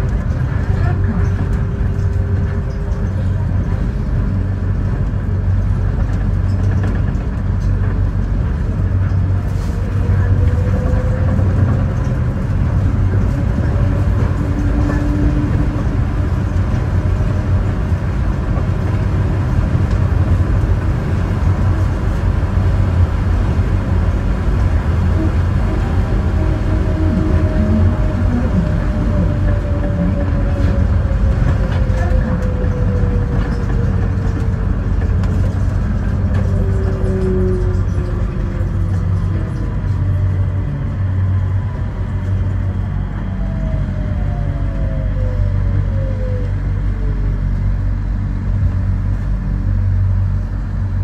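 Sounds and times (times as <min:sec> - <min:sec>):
train rumble inside car: 0:00.0 - 0:51.0.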